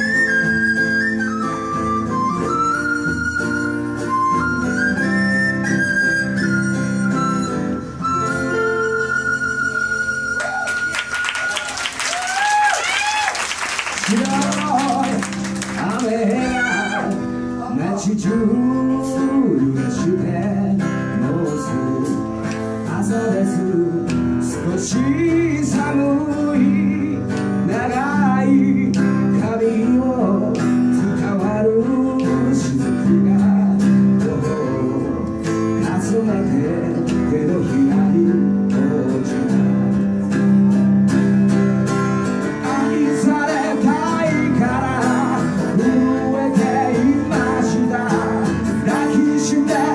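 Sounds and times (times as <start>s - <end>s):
acoustic guitars strumming: 0.0s - 11.7s, 13.7s - 49.9s.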